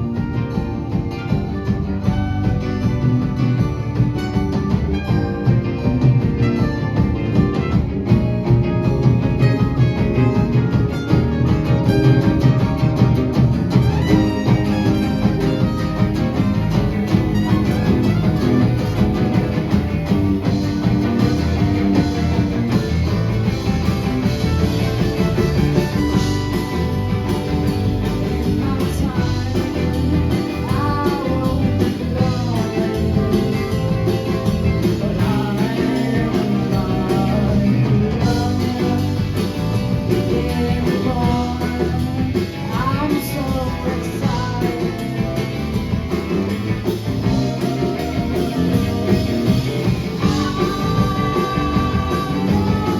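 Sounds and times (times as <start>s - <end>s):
live rock band playing: 0.0s - 52.9s
sliding lead melody: 0.0s - 52.9s.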